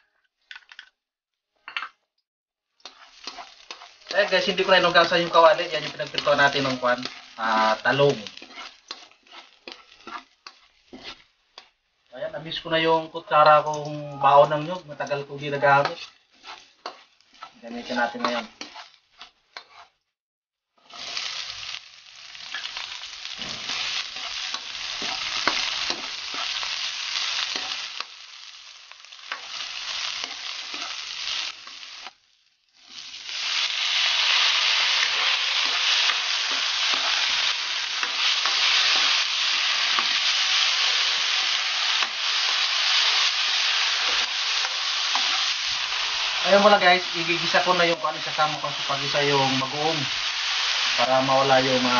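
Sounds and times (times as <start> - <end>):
food sizzling in hot oil: 2.6 - 20.0, 20.7 - 51.9.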